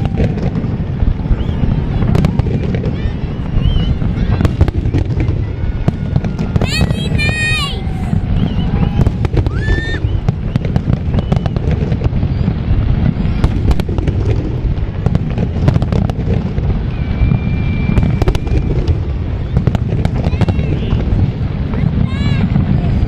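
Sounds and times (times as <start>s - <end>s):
fireworks bursting: 0.0s - 23.0s
high firework whistle: 0.0s - 23.0s
sharp firework cracks and bangs: 0.0s - 23.0s.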